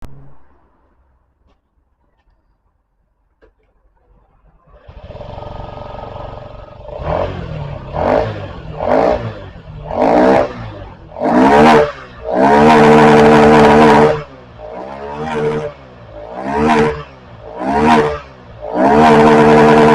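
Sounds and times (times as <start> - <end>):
scooter engine starting and revving: 3.9 - 19.9.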